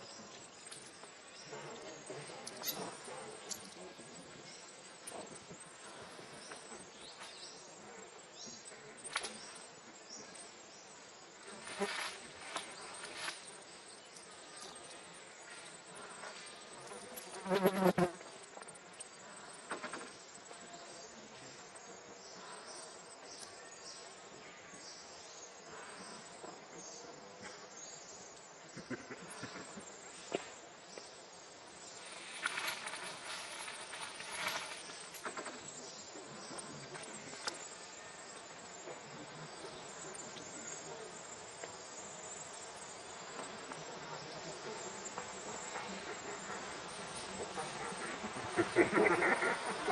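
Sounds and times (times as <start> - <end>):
insects buzzing and chirring: 0.0 - 49.9.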